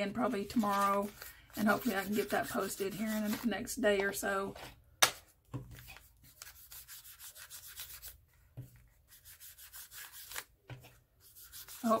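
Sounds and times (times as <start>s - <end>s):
ink tool scuffing paper: 0.2s - 12.0s.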